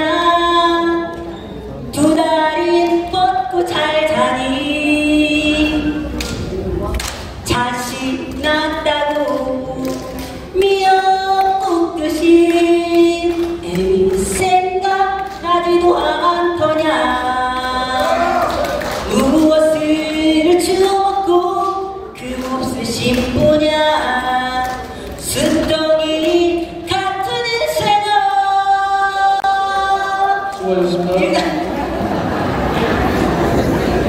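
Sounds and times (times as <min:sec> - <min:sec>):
person singing into microphone: 0:00.0 - 0:06.5, 0:07.4 - 0:31.7.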